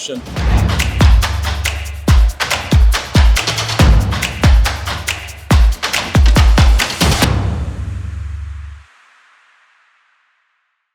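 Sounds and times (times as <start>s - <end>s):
electronic music with kick drum: 0.0s - 8.8s.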